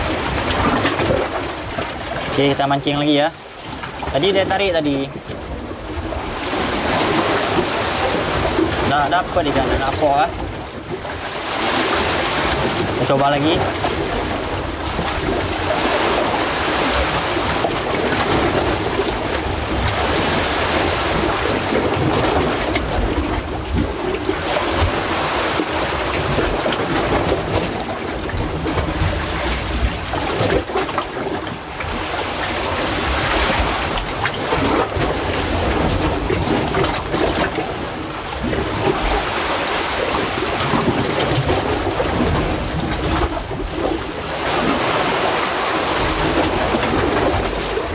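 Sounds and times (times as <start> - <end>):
seawater surging in rock crevice: 0.0 - 47.9.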